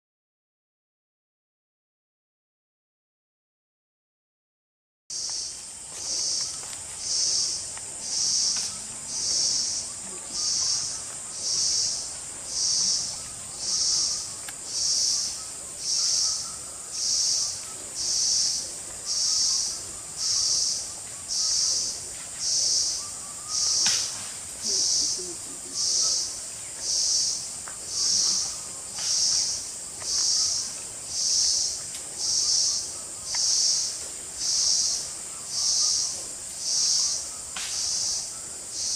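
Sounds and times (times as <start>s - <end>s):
insect chorus high shrill: 5.1s - 38.9s
lower pulsing insect note: 5.1s - 38.9s.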